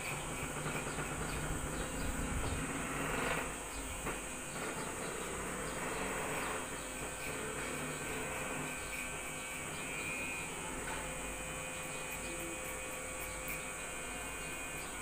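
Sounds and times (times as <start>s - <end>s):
electric hair clippers running: 0.0s - 15.0s.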